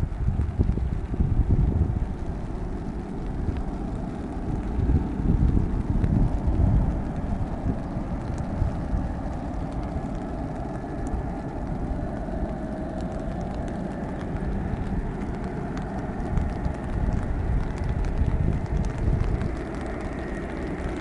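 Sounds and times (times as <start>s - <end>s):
faint whine: 0.0s - 21.0s
jet engines rumbling: 0.0s - 21.0s.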